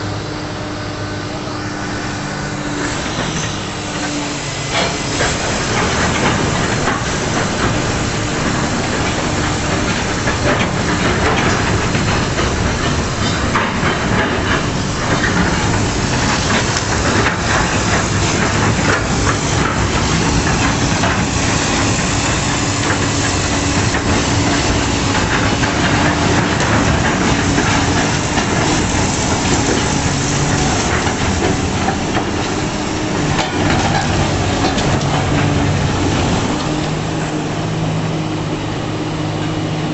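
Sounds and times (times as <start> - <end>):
machine hissing: 1.5 - 37.1.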